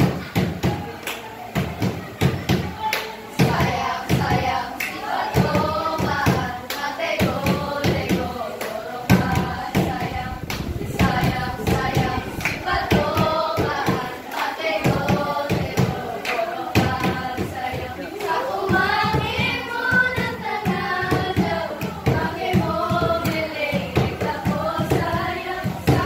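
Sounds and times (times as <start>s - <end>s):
children singing: 0.0s - 26.0s
sharp rhythmic beats: 0.0s - 26.0s.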